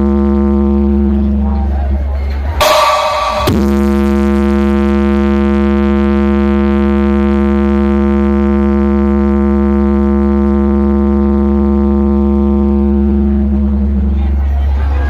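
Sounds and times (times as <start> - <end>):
sustained electronic drone note: 0.0 - 1.5, 2.6 - 15.0
deep bass hum: 0.0 - 15.0.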